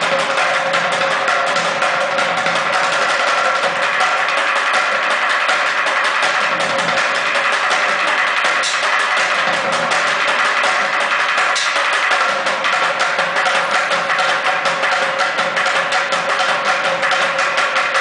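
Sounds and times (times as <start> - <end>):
sticks drumming on plastic buckets: 0.0 - 18.0.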